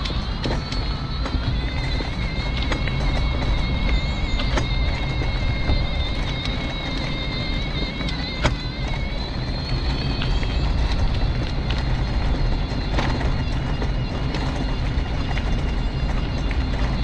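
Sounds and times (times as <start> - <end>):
electric motor whine: 0.0 - 17.0
wheels rumbling on tarmac: 0.0 - 17.0.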